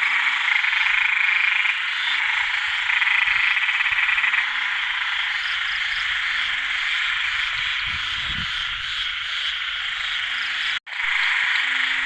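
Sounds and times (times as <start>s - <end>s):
chorus of frogs calling: 0.0s - 12.0s.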